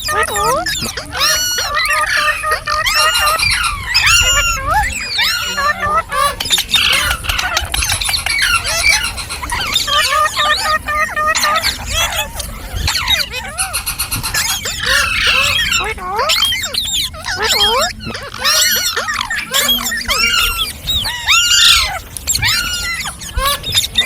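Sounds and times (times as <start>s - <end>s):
parrots chattering and squawking: 0.0s - 24.0s.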